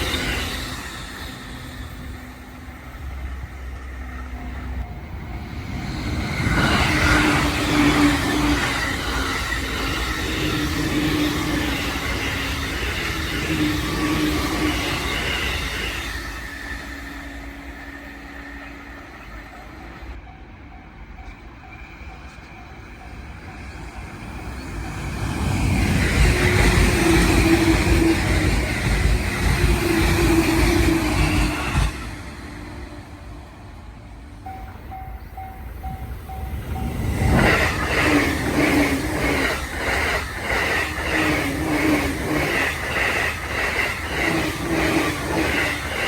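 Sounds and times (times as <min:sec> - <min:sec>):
electric train rushing past: 0:00.0 - 0:46.0.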